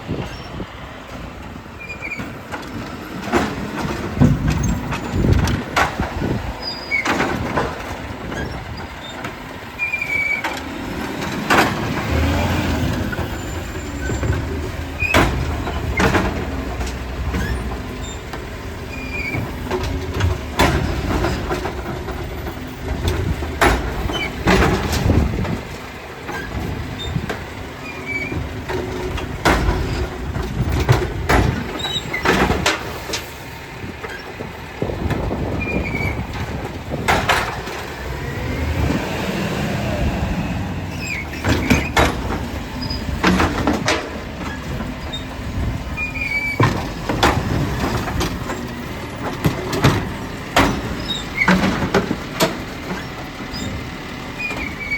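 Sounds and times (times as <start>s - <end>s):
garbage truck engine running: 0.0s - 54.9s.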